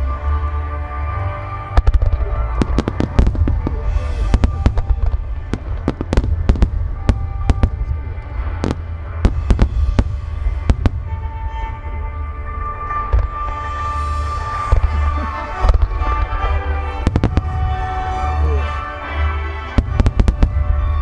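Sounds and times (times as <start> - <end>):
deep continuous rumble: 0.0 - 21.0
music playing: 0.0 - 21.0.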